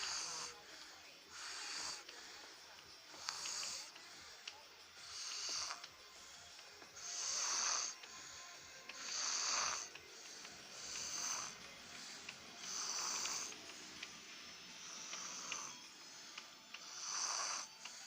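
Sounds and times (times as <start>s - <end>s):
person snoring: 0.0s - 4.4s, 5.0s - 14.0s, 14.8s - 18.0s.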